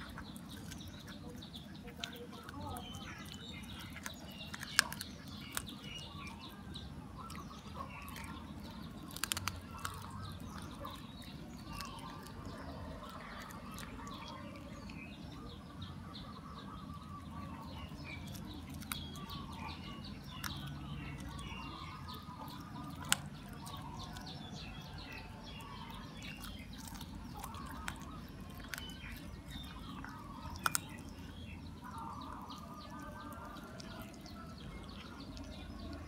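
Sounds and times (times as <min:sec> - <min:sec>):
cat crunching on a bone: 0:00.0 - 0:15.8, 0:16.6 - 0:36.0
faint birds chirping: 0:00.0 - 0:36.0.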